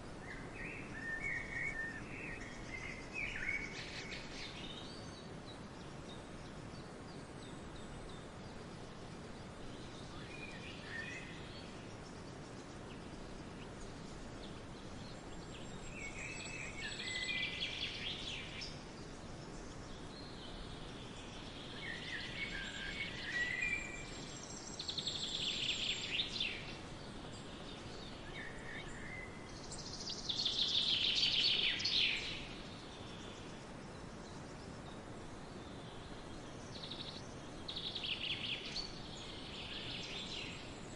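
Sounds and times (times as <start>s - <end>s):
birds singing: 0.0s - 40.9s
steady background hiss: 0.0s - 40.9s.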